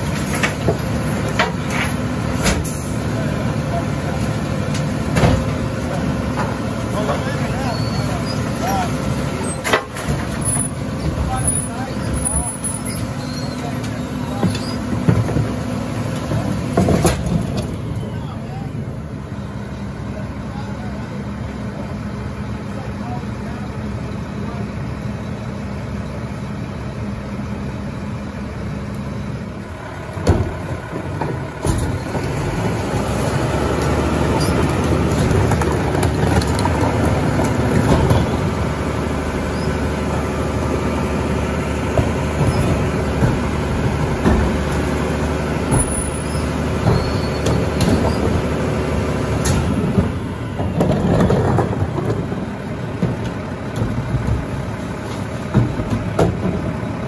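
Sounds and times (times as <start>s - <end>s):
garbage truck diesel engine: 0.0s - 57.0s.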